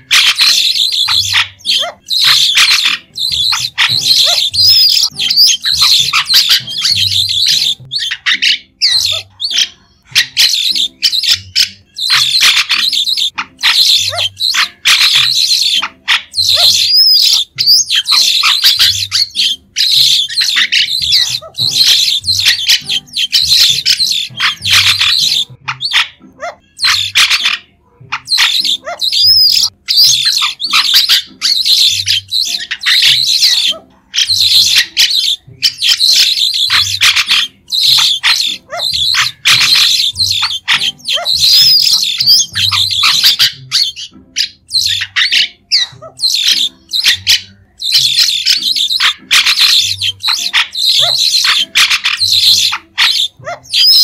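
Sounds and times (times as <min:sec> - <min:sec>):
starlings chattering: 0:00.0 - 0:54.0.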